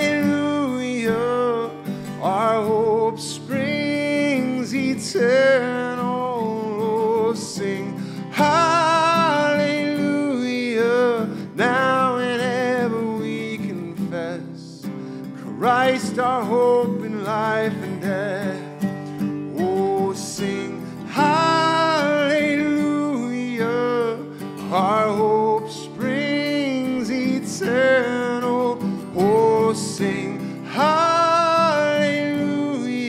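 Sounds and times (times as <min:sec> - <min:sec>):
acoustic guitar: 0:00.0 - 0:33.0
person singing worship song: 0:00.0 - 0:33.0.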